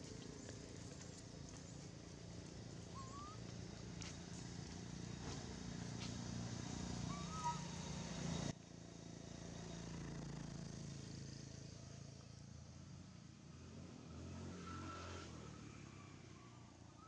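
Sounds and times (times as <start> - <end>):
distant vehicle engine hum: 0.0 - 17.0.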